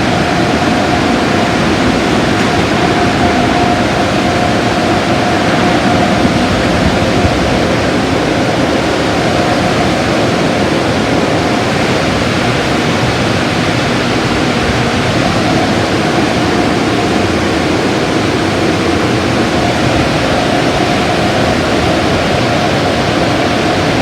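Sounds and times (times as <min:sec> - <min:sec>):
car wash equipment rushing: 0:00.0 - 0:24.0.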